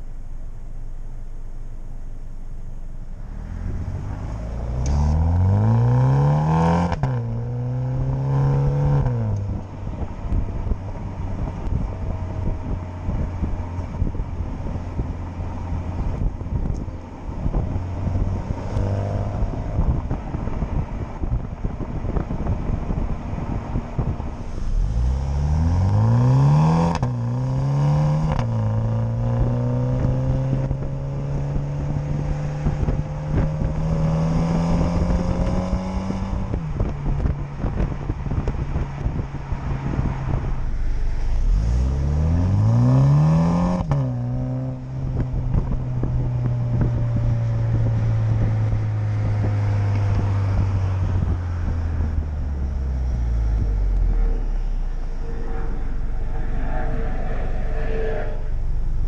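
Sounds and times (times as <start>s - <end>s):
car exhaust accelerating hard: 0.0s - 59.0s.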